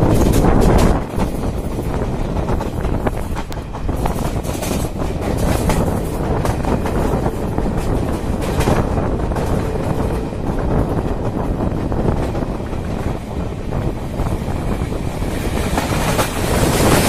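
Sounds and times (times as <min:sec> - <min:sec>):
train wheels rushing on rails: 0:00.0 - 0:17.0
wheels clicking over rail joints: 0:00.0 - 0:17.0
wind buffeting microphone: 0:00.0 - 0:17.0.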